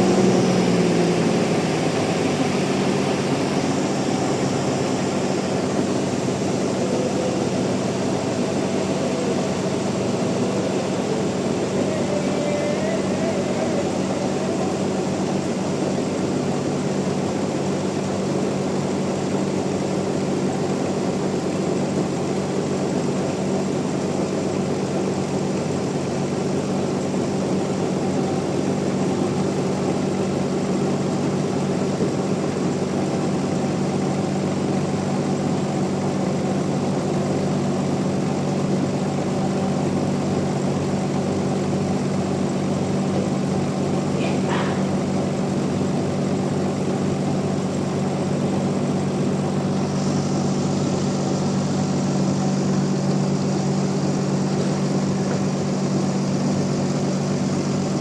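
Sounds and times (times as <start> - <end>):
band sawmill humming: 0.0 - 18.9, 27.4 - 58.0.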